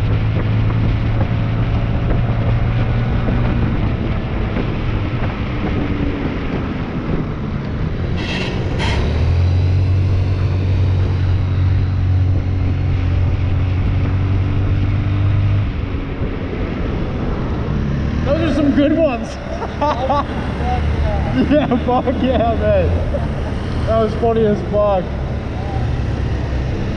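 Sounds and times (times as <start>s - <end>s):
car engine and road noise: 0.0s - 26.9s.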